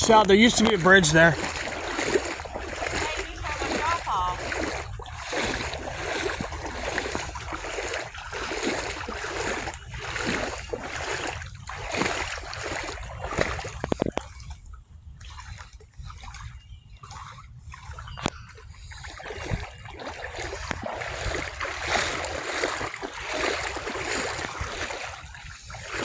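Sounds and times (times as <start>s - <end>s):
wading through water sloshing: 0.0s - 26.0s
trickle of moving water: 1.4s - 3.8s, 4.4s - 26.0s.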